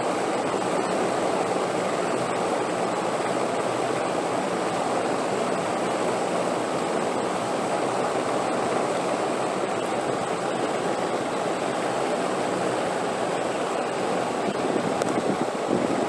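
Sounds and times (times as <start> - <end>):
steady wind: 0.0 - 16.0.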